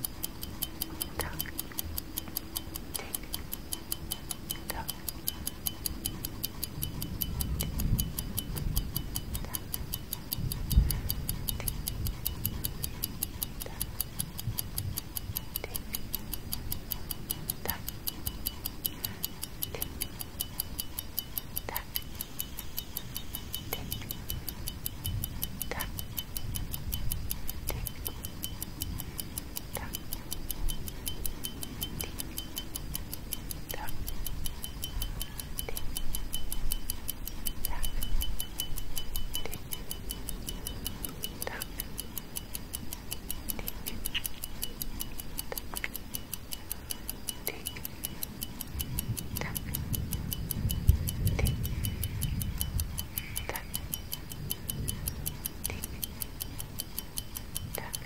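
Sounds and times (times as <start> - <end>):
clock ticking: 0.0 - 58.0
soft low clock stroke: 0.0 - 58.0.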